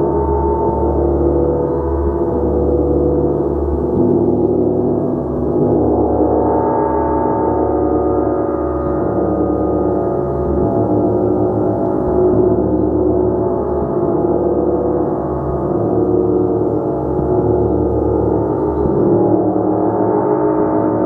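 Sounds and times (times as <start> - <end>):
gong sustained tones: 0.0 - 21.0.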